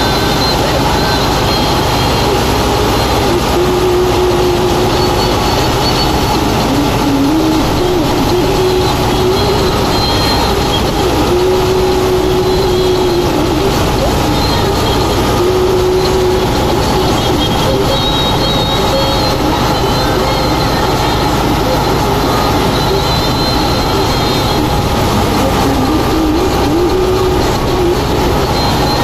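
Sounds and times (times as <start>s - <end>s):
thresher running: 0.0s - 29.0s
tractor engine: 0.0s - 29.0s.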